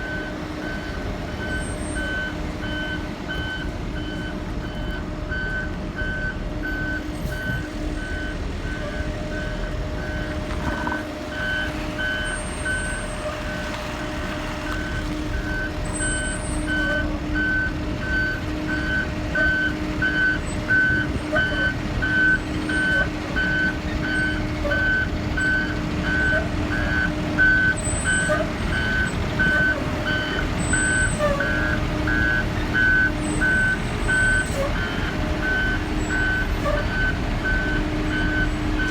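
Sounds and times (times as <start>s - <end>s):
bus backup alarm beeping: 0.0s - 38.9s
bus engine humming: 0.0s - 38.9s.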